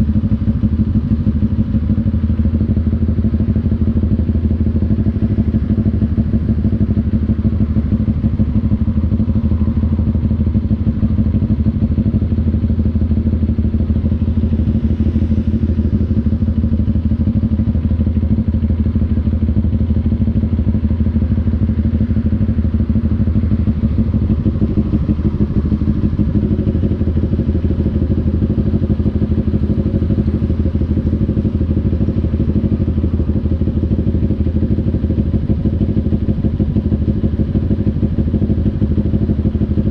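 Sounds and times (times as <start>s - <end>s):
two-cylinder engine running: 0.0s - 39.9s.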